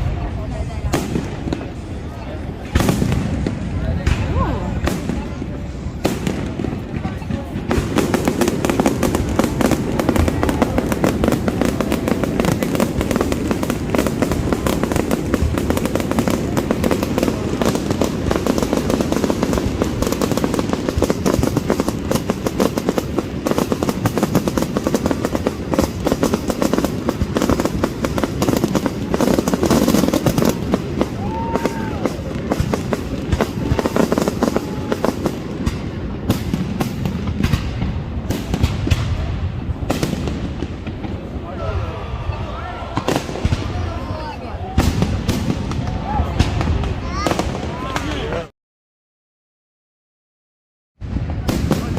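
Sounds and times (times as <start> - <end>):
fireworks bangs and crackles: 0.0 - 48.5, 51.0 - 51.9.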